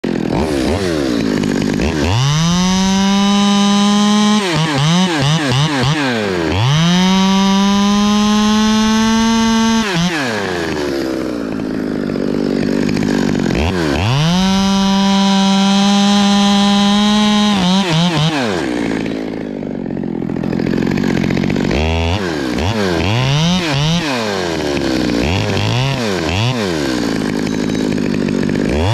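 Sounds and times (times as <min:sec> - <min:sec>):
chainsaw cutting wood: 0:00.0 - 0:28.9.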